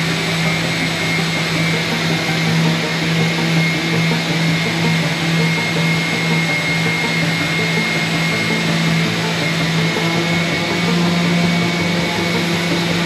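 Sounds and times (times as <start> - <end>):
power tool motor whining: 0.0 - 13.0.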